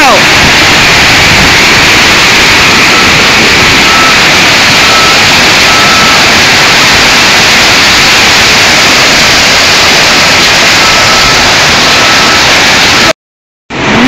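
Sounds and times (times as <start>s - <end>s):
heavy rain on paving: 0.0s - 13.1s.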